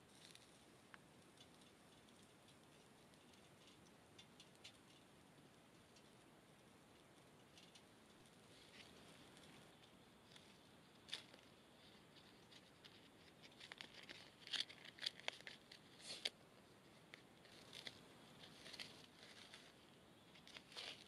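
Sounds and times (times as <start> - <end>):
sharp crackles and ticks: 0.0 - 21.0.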